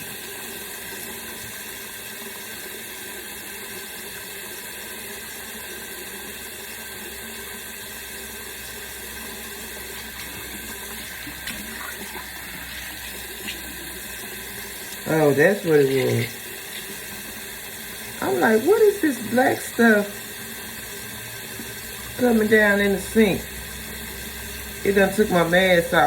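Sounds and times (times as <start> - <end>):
tap water running into sink: 0.0 - 26.0.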